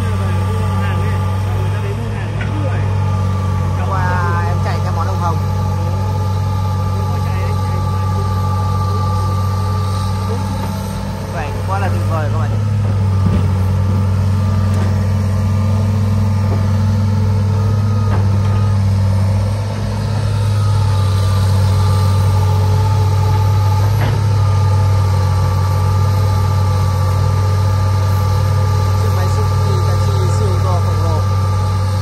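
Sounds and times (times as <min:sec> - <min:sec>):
excavator diesel engine: 0:00.0 - 0:32.0
farm truck engine idling: 0:00.0 - 0:32.0.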